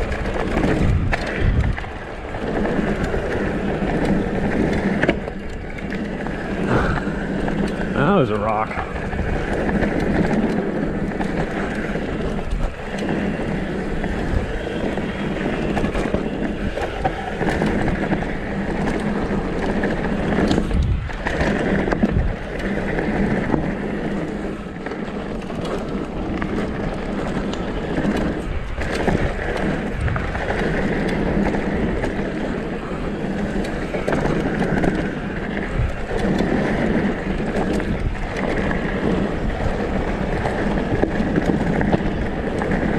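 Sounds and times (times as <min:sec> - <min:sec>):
tyres on dirt trail: 0:00.0 - 0:42.9
wind rushing over microphone: 0:00.0 - 0:42.9.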